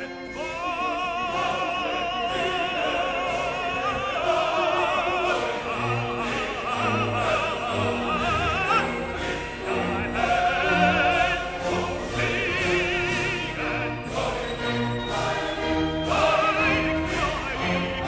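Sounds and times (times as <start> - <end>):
classical music: 0.0 - 18.0
operatic voice singing: 0.0 - 18.0.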